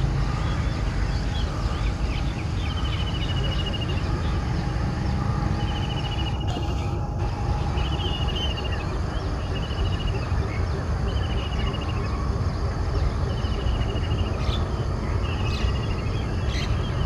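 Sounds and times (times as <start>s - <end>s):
diesel locomotive rumbling: 0.0s - 17.0s.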